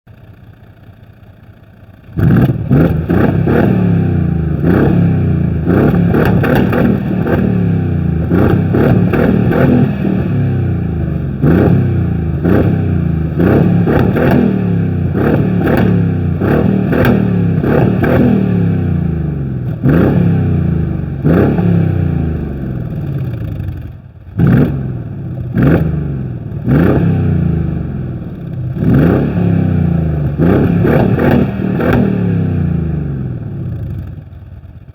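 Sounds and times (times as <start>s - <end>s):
exhaust crackles: 0.1s - 34.4s
car engine revving: 2.2s - 23.8s, 24.4s - 34.0s.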